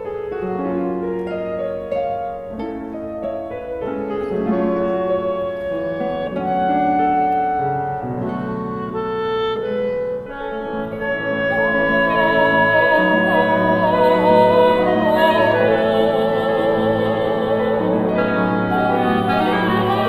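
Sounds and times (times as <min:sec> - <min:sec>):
clarinet: 0:00.0 - 0:20.0
piano: 0:00.0 - 0:20.0.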